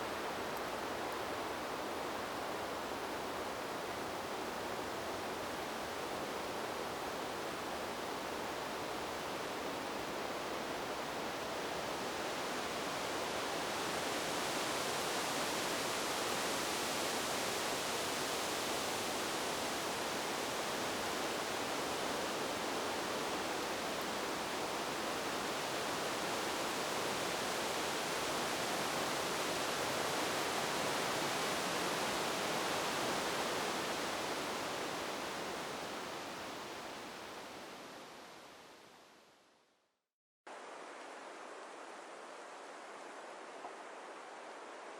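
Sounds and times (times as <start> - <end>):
wind through forest trees: 0.0 - 44.9.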